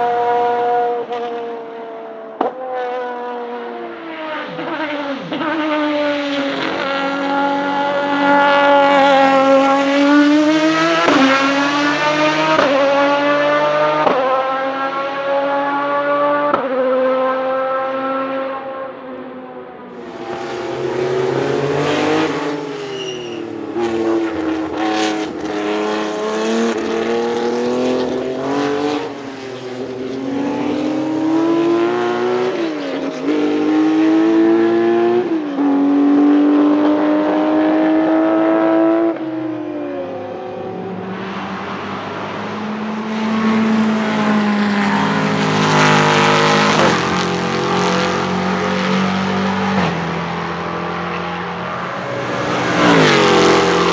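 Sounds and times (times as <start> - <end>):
car passing at speed: 0.0 - 53.9
racing car engine accelerating: 0.0 - 53.9.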